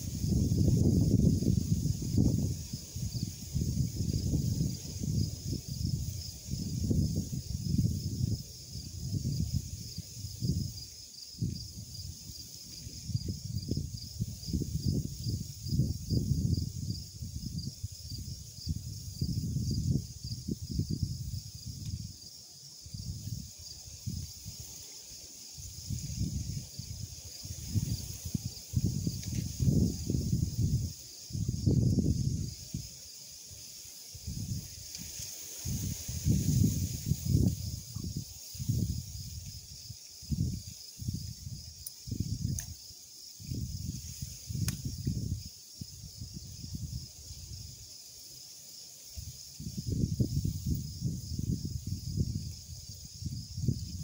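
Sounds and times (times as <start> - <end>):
wind buffeting microphone: 0.0 - 24.7, 25.6 - 32.9, 34.2 - 47.9, 49.2 - 54.0
insects trilling: 0.0 - 54.0.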